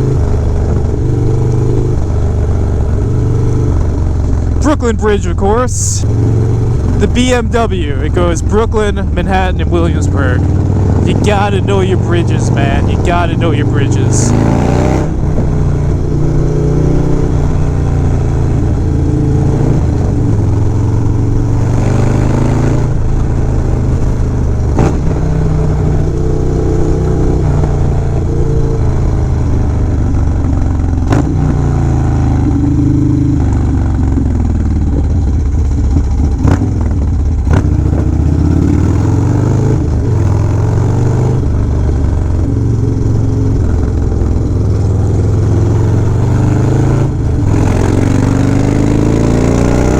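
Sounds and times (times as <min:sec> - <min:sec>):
motorcycle engine riding: 0:00.0 - 0:49.9.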